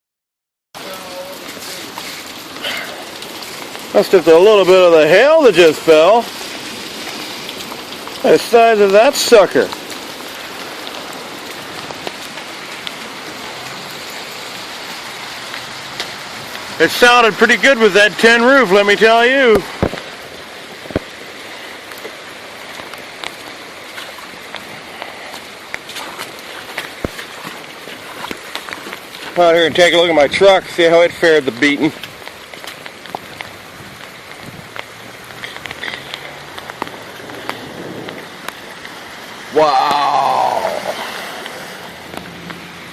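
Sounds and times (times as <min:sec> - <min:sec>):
water drips and taps: 0:00.8 - 0:39.0, 0:39.7 - 0:42.9
steady rain hiss: 0:00.8 - 0:42.9.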